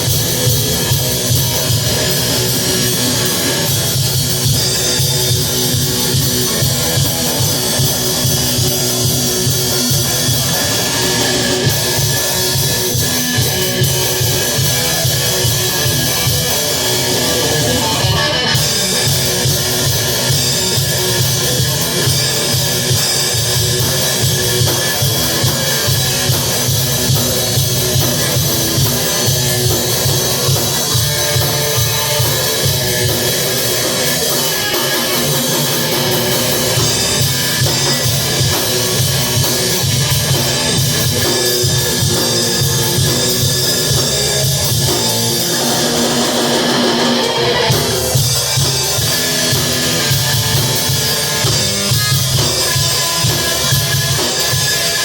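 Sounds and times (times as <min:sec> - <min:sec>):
rock guitar and drums: 0:00.0 - 0:55.0.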